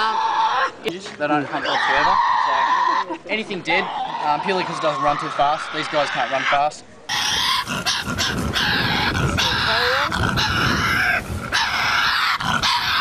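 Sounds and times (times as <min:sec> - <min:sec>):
animal growling and screeching: 0:01.5 - 0:03.1, 0:03.8 - 0:13.0.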